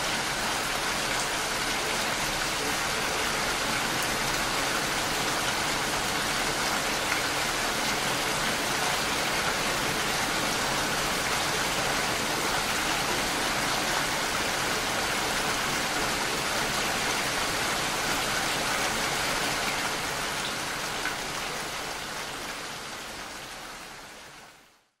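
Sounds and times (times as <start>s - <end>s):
rain falling and splashing: 0.0s - 24.8s.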